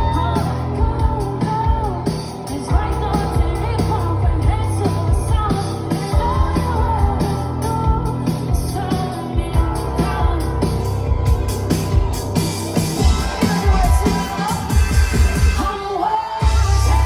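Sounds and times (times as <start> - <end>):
woman singing: 0.0 - 11.6, 13.0 - 17.0
sustained bass: 0.0 - 15.7, 16.4 - 17.0
live rock band: 0.0 - 17.0
steady drum beat: 0.0 - 17.0.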